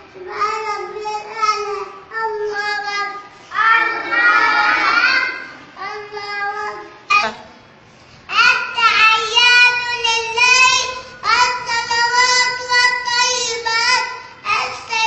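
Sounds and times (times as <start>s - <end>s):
boy chanting: 0.2s - 7.4s, 8.3s - 15.0s.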